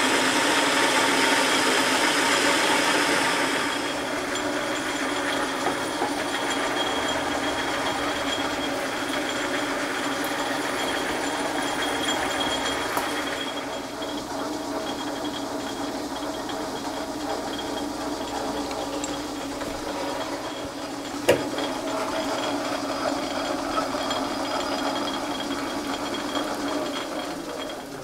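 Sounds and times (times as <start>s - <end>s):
drill boring into metal: 0.0s - 28.0s
metal lathe running: 0.0s - 28.0s.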